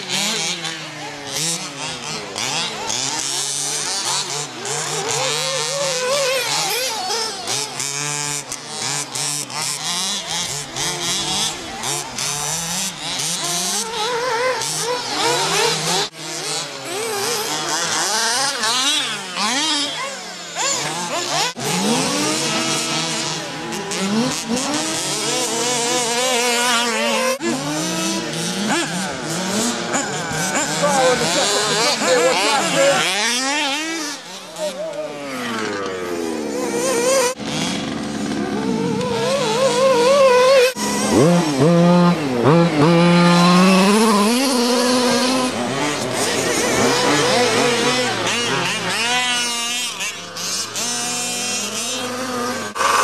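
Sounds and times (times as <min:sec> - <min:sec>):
rc car motors whining: 0:00.0 - 0:53.0.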